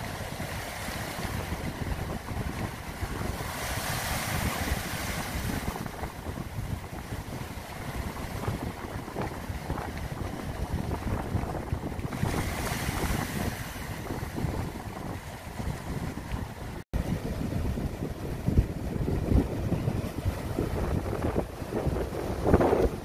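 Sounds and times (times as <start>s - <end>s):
waves breaking on rocks: 0.0s - 23.0s
wind buffeting microphone: 0.0s - 23.0s.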